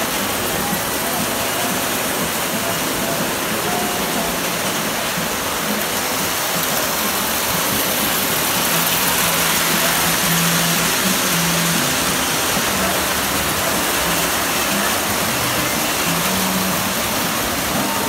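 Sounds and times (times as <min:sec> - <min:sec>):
toy trains whirring on rails: 0:00.0 - 0:18.0.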